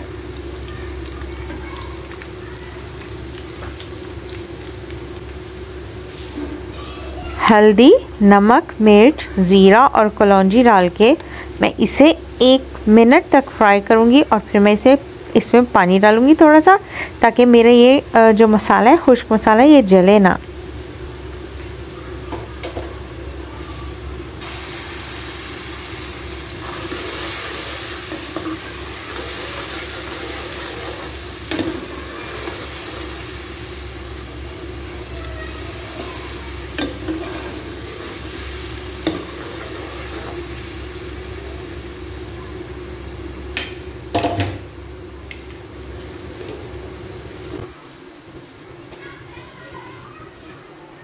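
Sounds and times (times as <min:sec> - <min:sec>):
masala sizzling in a metal pan: 0:00.0 - 0:50.7.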